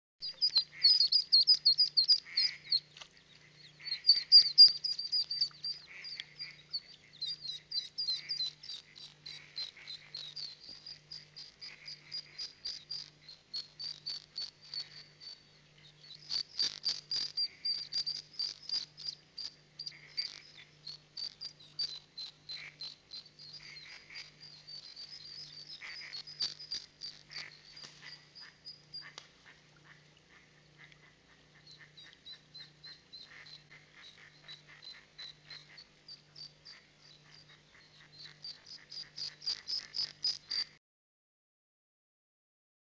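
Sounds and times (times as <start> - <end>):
ducklings peeping: 0.2 - 40.8.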